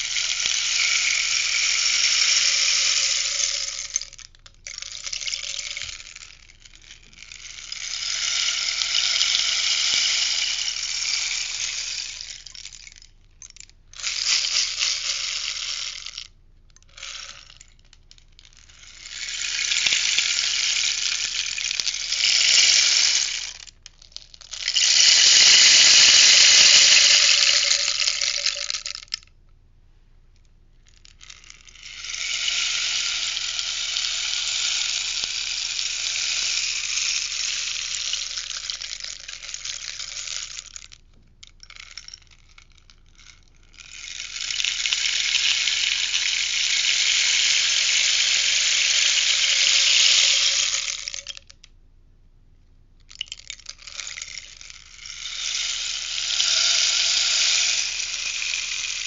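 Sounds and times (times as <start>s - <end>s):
rainstick pebbles cascading: 0.0s - 29.2s, 31.1s - 41.0s, 41.6s - 51.5s, 53.1s - 59.0s.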